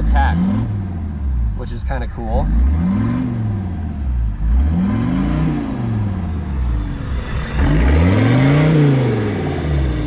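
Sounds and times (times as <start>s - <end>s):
diesel engine revving: 0.0s - 10.0s.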